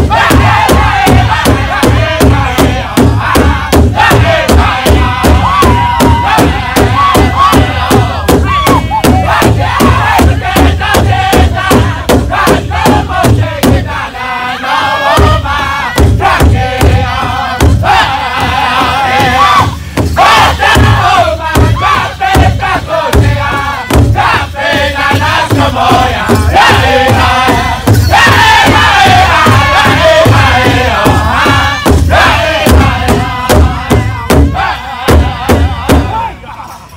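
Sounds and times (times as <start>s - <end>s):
large hide drum beating: 0.0s - 14.0s, 15.1s - 36.2s
men singing high-pitched in unison: 0.0s - 36.9s.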